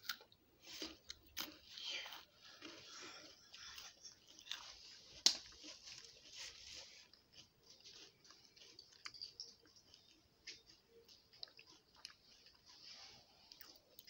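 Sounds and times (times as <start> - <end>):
chewing chocolate: 0.0 - 14.0.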